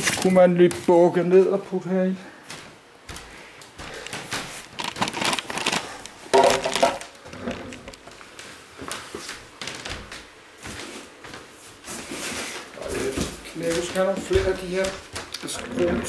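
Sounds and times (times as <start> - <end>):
plastic bags rustling and crinkling: 0.0 - 1.2, 2.5 - 16.0.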